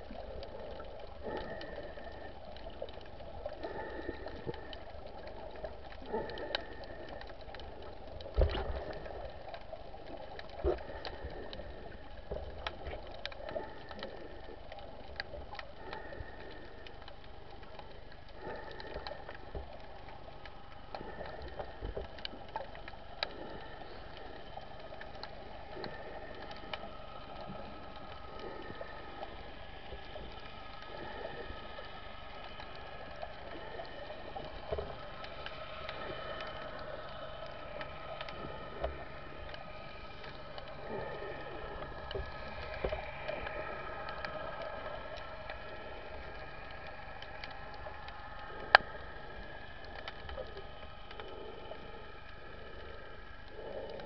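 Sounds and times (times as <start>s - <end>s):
steady underwater hum: 0.0s - 54.0s.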